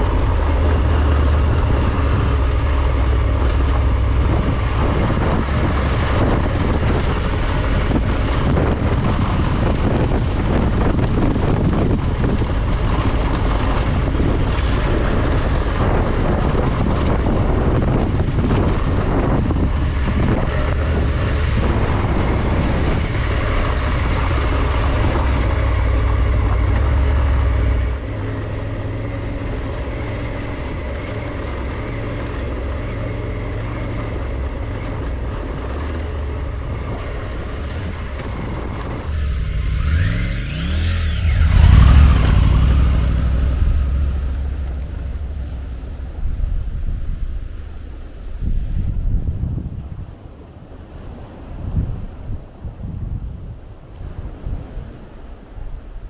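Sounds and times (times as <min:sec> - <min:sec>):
motorcycle engine running: 0:00.0 - 0:48.7
wind on microphone: 0:00.0 - 0:56.0.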